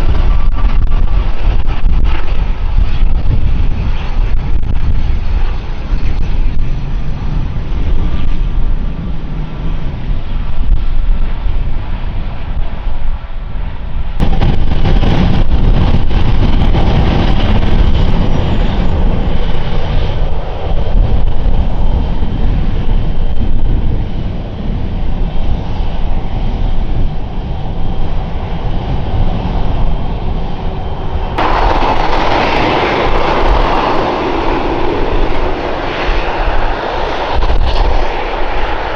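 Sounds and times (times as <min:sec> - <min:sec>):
airliner engines rumbling: 0:00.0 - 0:38.9.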